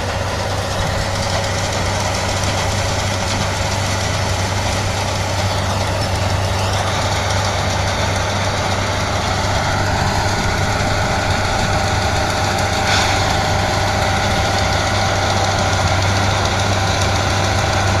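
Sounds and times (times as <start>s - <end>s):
combine harvester engine drone: 0.0s - 18.0s.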